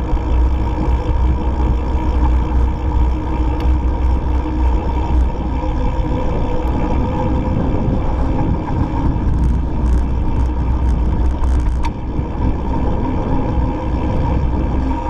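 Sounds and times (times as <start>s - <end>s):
bike ticking: 0.0s - 15.0s
bike tyres rolling: 0.0s - 15.0s
continuous hum: 0.0s - 15.0s.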